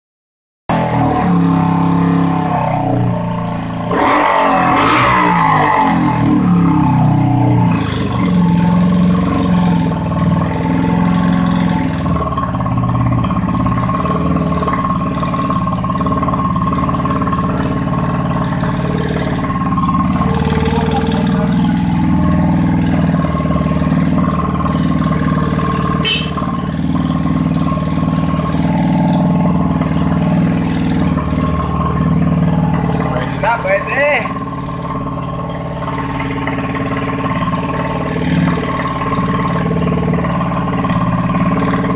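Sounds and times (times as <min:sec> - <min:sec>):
motorcycle engine revving: 0:00.7 - 0:41.9.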